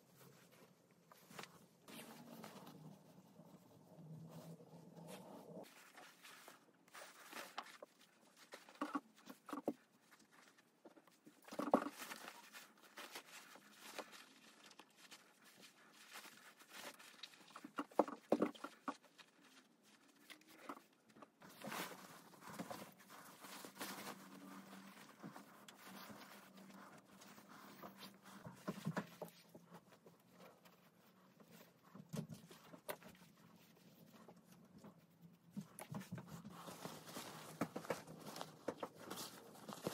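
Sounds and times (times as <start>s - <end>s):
fabric rustling: 0.0s - 39.9s.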